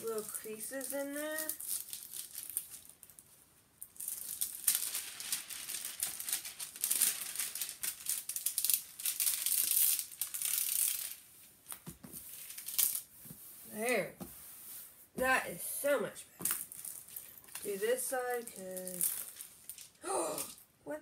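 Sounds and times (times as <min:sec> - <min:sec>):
plastic film crinkling: 0:00.0 - 0:14.0, 0:16.4 - 0:20.6.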